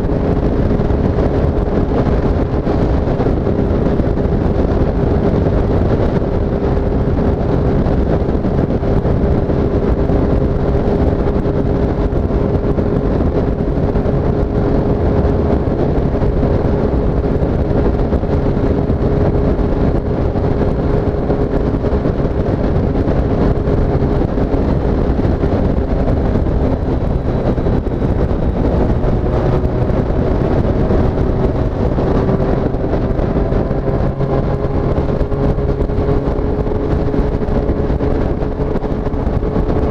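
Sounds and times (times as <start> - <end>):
motorcycle engine cruising: 0.0 - 39.9
road rumble: 0.0 - 39.9
wind: 0.0 - 39.9.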